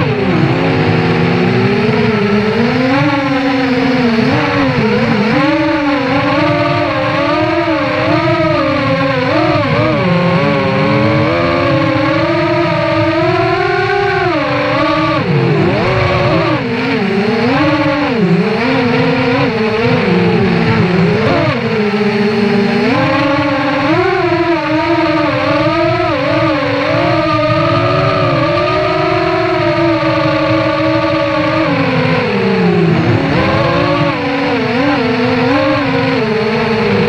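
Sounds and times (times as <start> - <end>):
quadcopter motors whining: 0.0 - 37.0.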